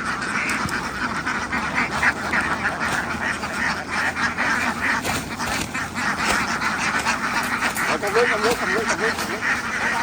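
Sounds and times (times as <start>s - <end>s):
flock of ducks quacking: 0.0s - 10.0s.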